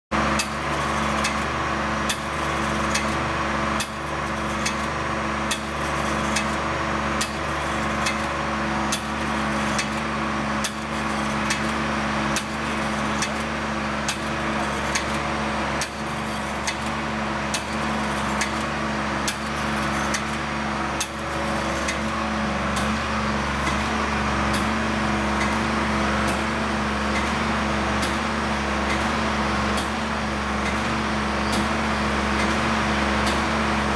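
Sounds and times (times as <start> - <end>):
pump humming with rapid clicks: 0.2 - 33.9.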